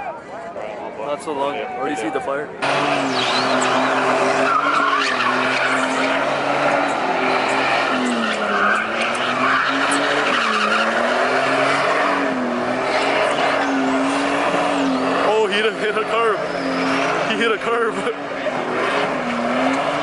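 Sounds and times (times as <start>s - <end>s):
tires squealing: 1.9s - 20.0s
car engine revving high: 2.6s - 20.0s.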